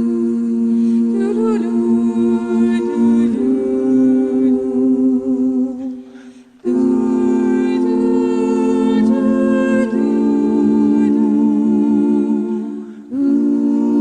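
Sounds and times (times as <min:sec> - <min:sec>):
slow music with long held notes: 0:00.0 - 0:14.0.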